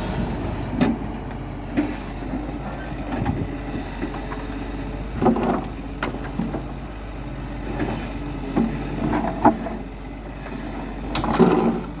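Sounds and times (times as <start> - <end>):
construction machinery engine running: 0.0 - 12.0.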